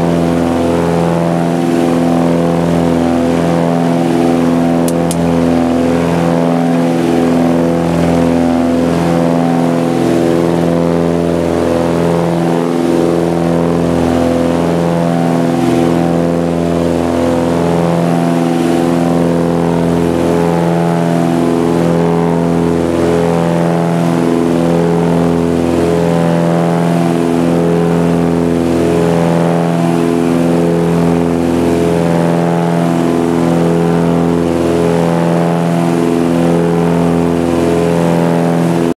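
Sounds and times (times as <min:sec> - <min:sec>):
propeller engine droning: 0:00.0 - 0:38.9.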